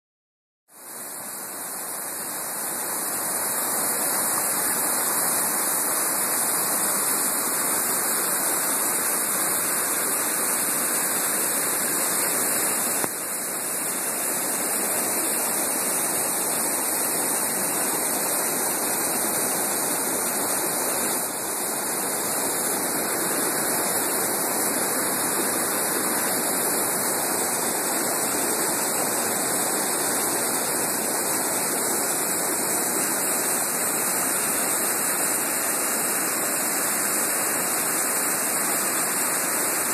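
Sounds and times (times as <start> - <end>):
waterfall rushing over rocks: 0.8 - 39.9.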